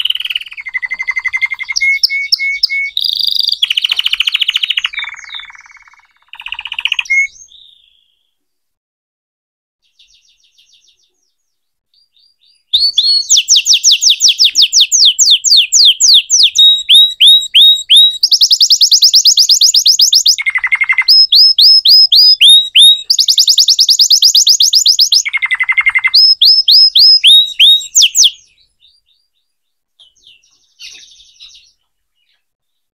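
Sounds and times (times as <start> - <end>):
faint bird twitters: 0.0 - 8.2, 12.0 - 32.5
canary singing trills: 0.0 - 8.3, 9.8 - 32.9.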